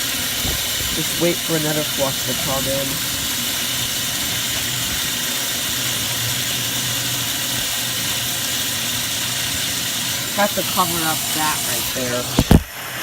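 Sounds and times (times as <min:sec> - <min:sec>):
water filling toilet tank: 0:00.0 - 0:13.0.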